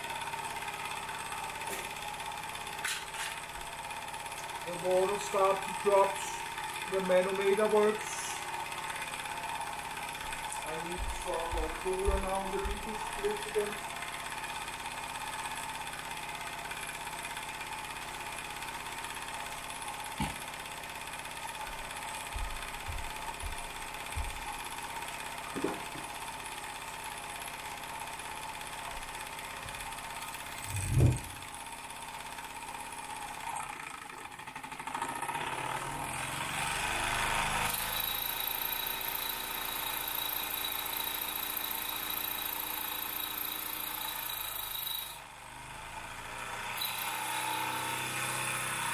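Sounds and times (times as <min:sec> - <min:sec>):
toy steam engine running: 0:00.0 - 0:36.1, 0:36.8 - 0:48.9.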